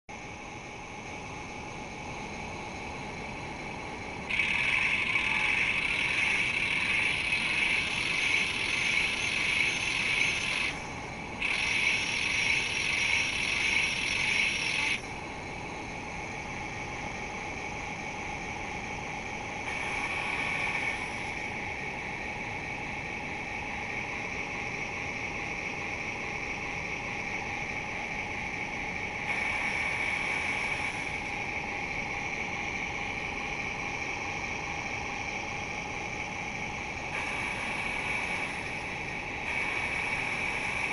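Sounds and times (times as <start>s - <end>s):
small motor and gears whining: 0.1s - 40.9s
steady electrical hum: 0.1s - 40.9s.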